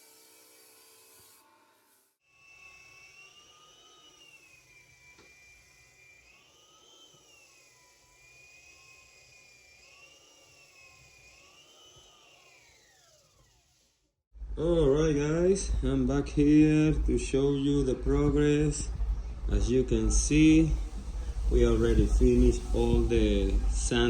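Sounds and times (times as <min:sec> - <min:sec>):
floor sander motor whine: 0:02.3 - 0:13.9, 0:15.8 - 0:24.0.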